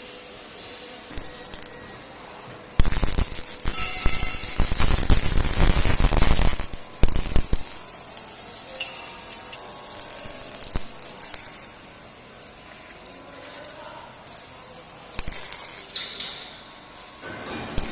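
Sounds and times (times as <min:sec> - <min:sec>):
arc welding crackling: 0:00.0 - 0:17.9.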